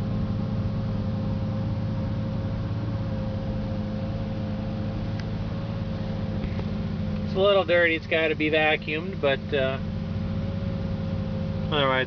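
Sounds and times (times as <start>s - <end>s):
car engine idling inside cabin: 0.0s - 12.0s.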